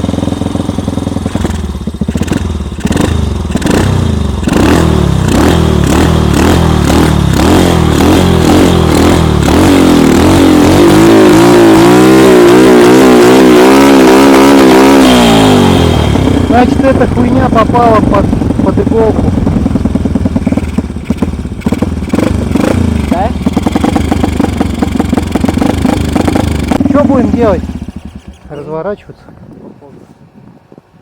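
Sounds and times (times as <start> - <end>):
small engine revving: 0.0 - 28.9.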